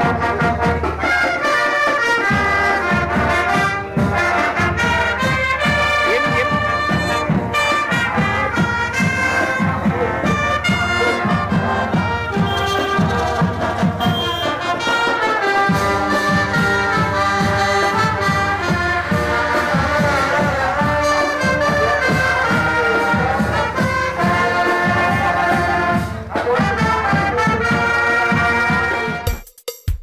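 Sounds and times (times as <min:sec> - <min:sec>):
upbeat brass music: 0:00.0 - 0:30.0.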